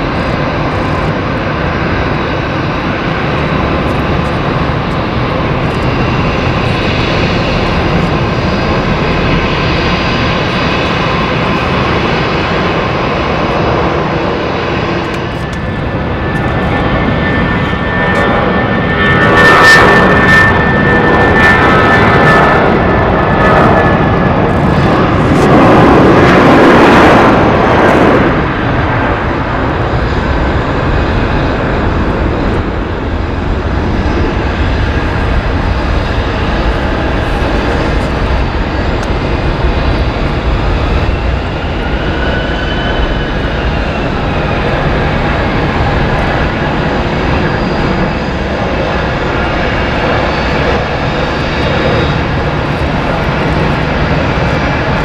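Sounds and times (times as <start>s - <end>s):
faint engine whine: 0.0s - 55.0s
jet engine roar: 0.0s - 55.0s.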